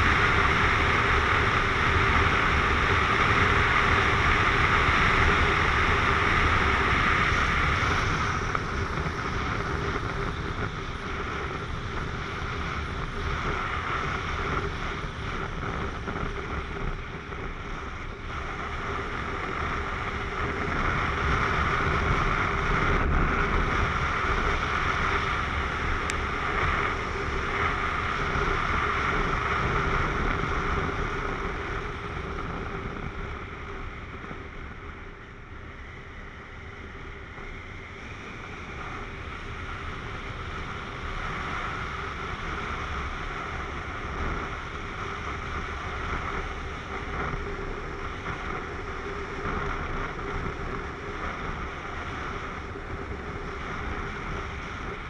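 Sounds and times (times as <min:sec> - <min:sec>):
motorcycle engine running: 0:00.0 - 0:55.0
wind rushing over camera: 0:00.0 - 0:55.0.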